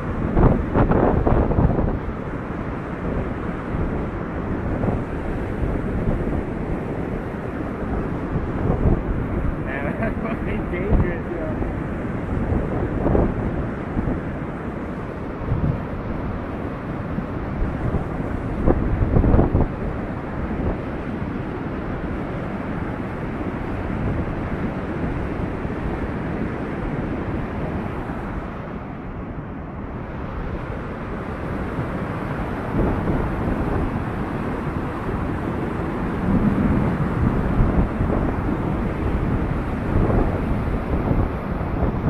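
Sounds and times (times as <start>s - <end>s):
floodwater rushing: 0.0s - 29.0s, 29.8s - 42.0s
wind buffeting microphone: 0.0s - 42.0s.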